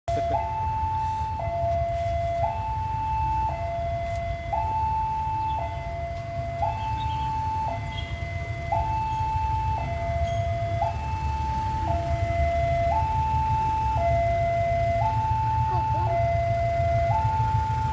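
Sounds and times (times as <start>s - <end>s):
diesel engine rumble: 0.1s - 17.9s
electronic two-tone alarm: 0.1s - 17.9s.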